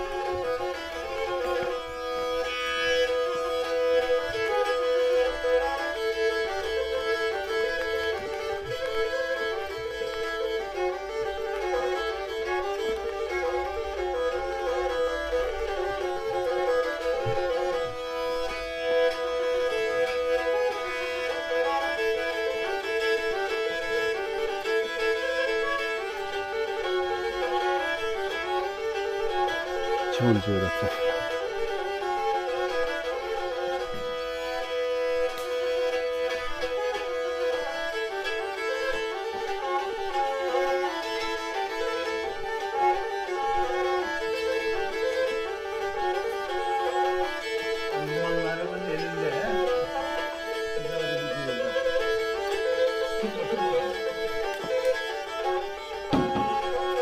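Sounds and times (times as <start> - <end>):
bowed fiddle playing a tune: 0.0 - 57.0.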